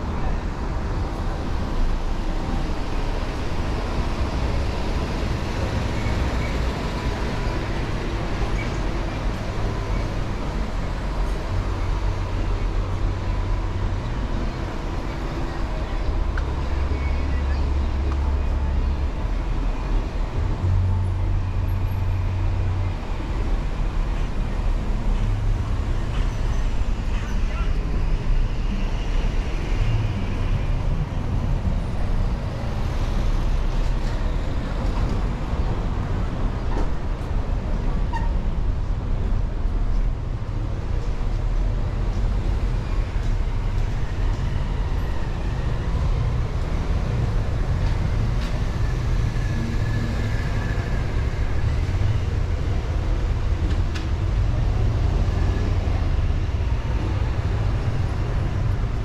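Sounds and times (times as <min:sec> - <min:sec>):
street traffic noise: 0:00.0 - 0:59.0.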